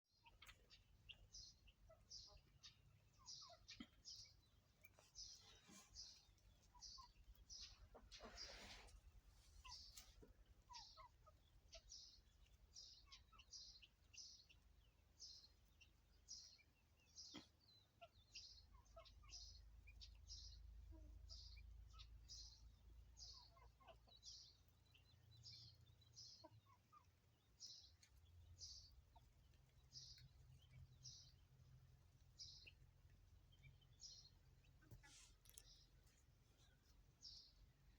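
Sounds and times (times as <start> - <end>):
bird chirping: 0.0 - 37.9.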